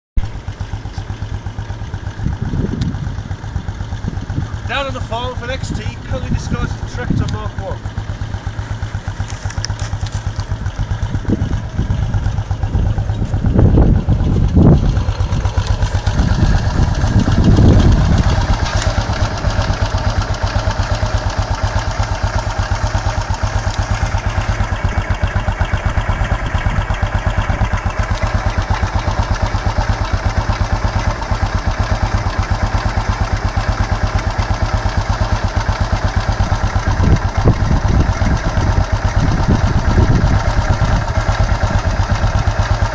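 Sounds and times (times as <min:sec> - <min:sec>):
single-cylinder motorcycle engine running: 0:00.2 - 0:42.9.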